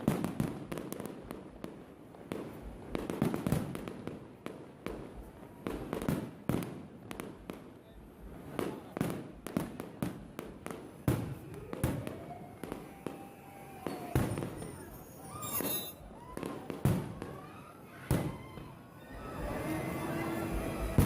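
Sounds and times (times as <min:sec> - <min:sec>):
high firework crackle: 0:00.0 - 0:21.0.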